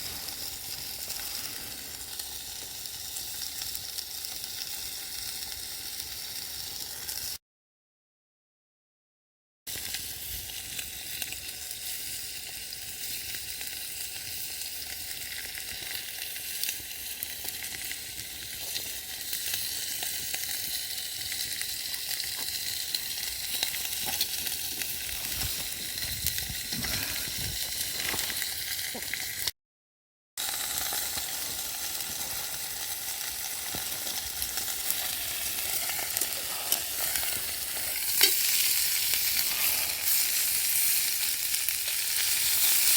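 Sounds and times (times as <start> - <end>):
food sizzling in a pan: 0.0 - 7.4, 9.7 - 29.5, 30.4 - 42.9.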